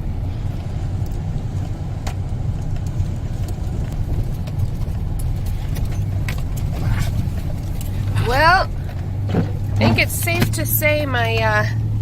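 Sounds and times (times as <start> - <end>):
car cabin rumble: 0.0 - 12.0
light clicks and rattles: 0.6 - 11.0.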